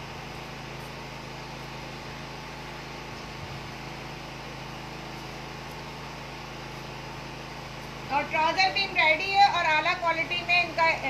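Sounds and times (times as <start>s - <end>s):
low constant hum: 0.0s - 11.0s.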